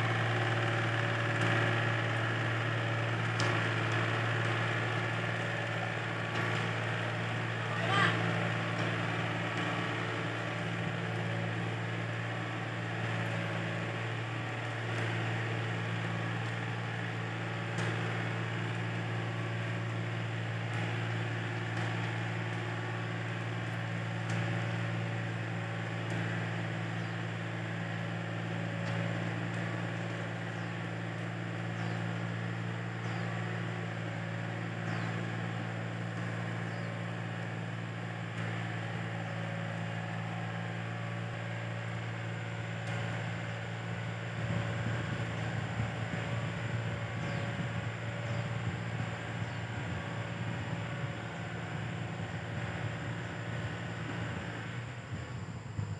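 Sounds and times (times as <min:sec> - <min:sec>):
tractor engine droning: 0:00.0 - 0:55.9.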